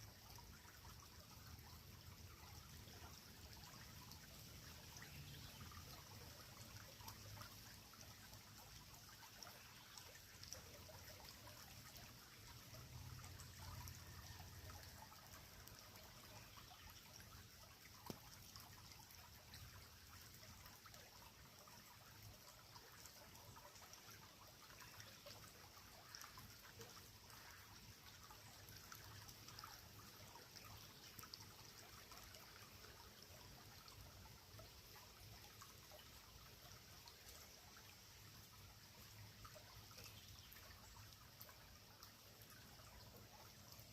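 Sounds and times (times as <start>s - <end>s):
creek trickling: 0.0s - 43.9s.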